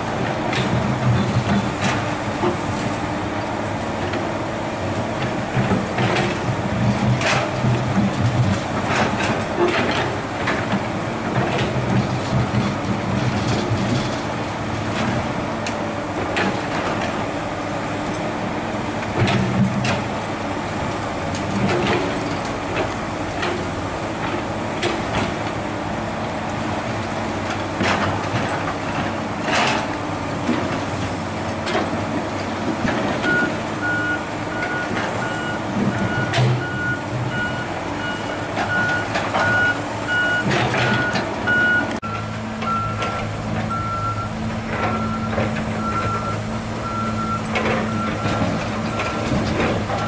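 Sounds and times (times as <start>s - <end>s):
excavator diesel engine under load: 0.0s - 50.0s.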